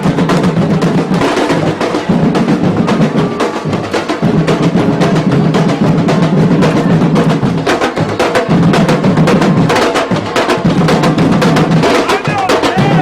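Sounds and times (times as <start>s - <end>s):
deep drum tone: 0.0s - 13.0s
percussion ensemble drumming: 0.0s - 13.0s.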